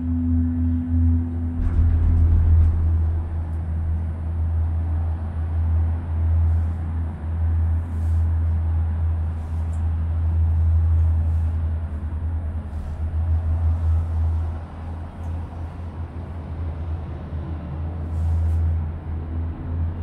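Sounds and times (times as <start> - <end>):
gondola cabin rumble: 0.0 - 20.0.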